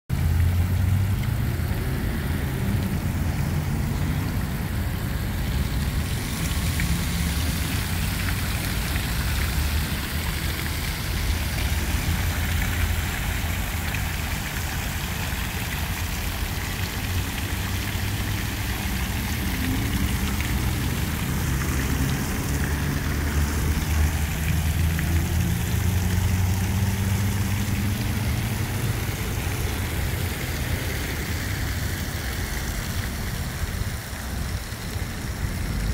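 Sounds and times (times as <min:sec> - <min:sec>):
city traffic rumble: 0:00.1 - 0:35.9
fountain splashing into basin: 0:00.1 - 0:35.9.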